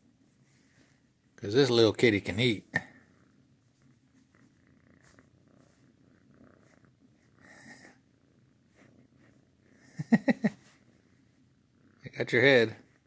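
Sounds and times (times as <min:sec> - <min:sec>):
kitten purring: 0:01.9 - 0:13.0.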